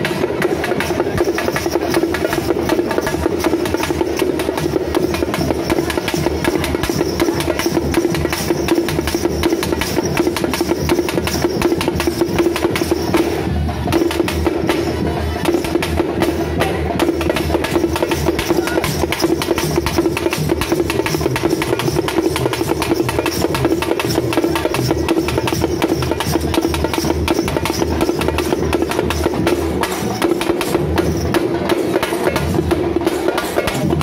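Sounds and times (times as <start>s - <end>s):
frame drums beaten with sticks: 0.0s - 34.0s.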